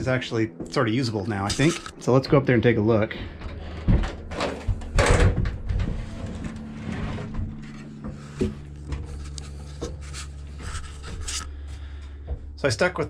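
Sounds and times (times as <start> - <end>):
knocks and creaks on ladder rungs: 0.0 - 13.0
low hum: 0.0 - 13.0.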